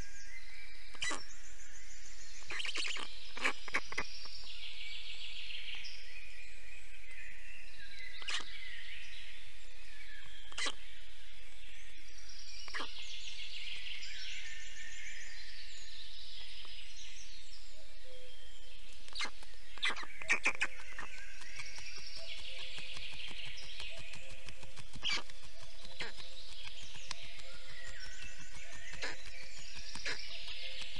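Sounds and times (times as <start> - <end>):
songbirds trilling: 0.0 - 30.9.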